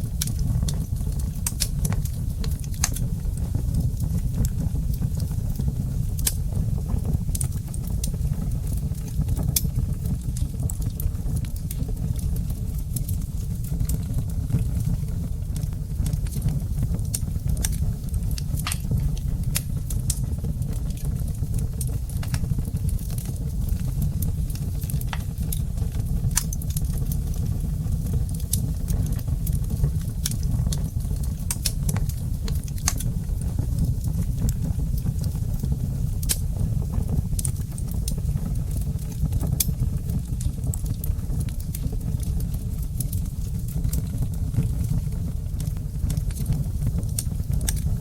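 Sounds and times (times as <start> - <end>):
low fire rumble: 0.0 - 48.0
wood fire crackling: 0.0 - 48.0.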